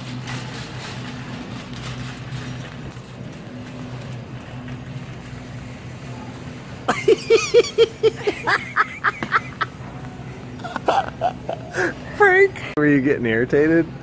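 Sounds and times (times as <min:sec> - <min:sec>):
shopping cart rolling and rattling: 0:00.0 - 0:11.6
steady low hum: 0:00.0 - 0:14.0.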